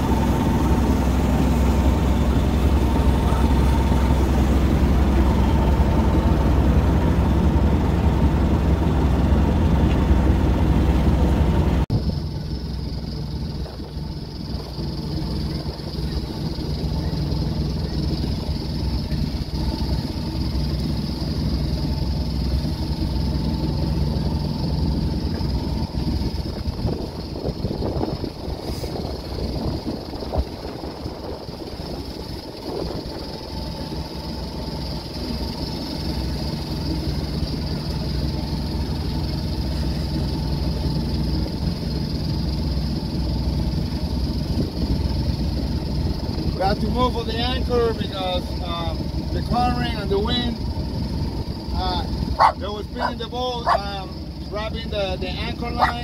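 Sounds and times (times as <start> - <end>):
boat engine rumble: 0.0 - 56.0
choppy water: 0.0 - 56.0
wind: 0.0 - 56.0.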